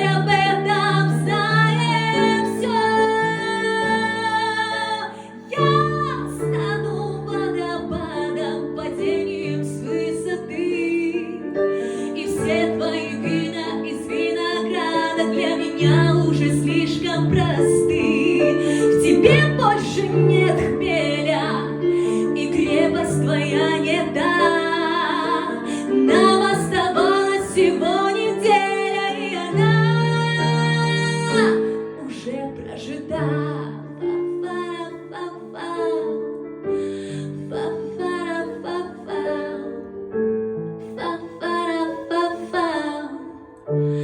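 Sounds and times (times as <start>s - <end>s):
woman singing pop ballad: 0.0s - 36.2s, 37.1s - 39.8s, 40.9s - 44.0s.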